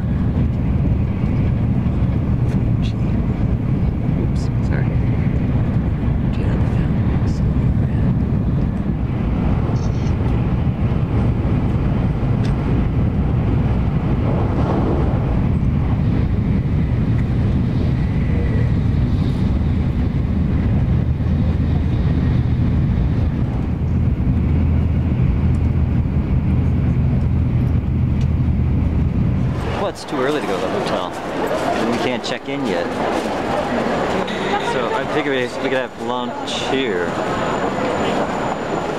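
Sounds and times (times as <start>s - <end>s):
train running low rumble: 0.0s - 38.9s.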